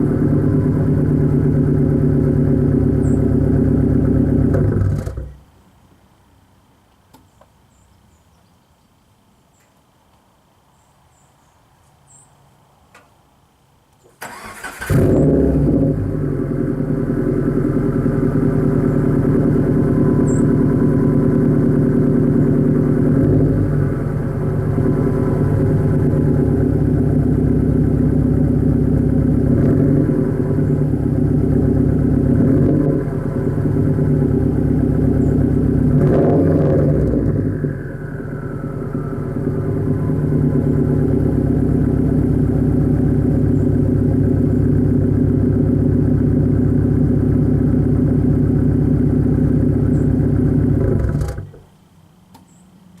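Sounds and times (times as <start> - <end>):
car engine idling: 0.0 - 5.5, 14.2 - 51.7.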